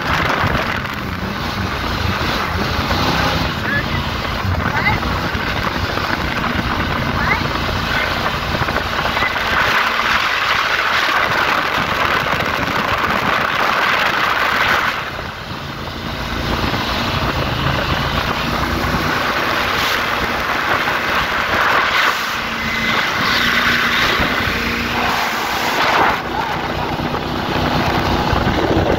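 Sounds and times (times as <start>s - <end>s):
motorboat engine drone: 0.0s - 28.9s
wind and water rushing: 0.0s - 28.9s.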